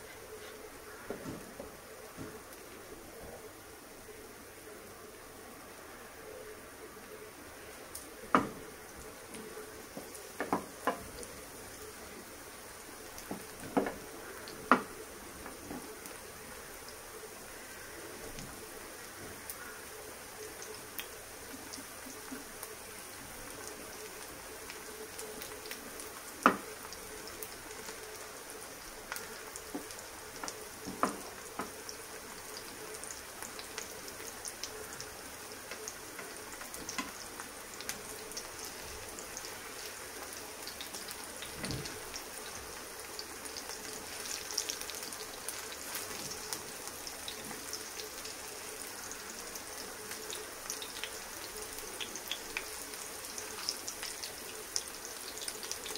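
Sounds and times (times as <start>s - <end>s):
patties sizzling in oil: 0.0s - 55.9s.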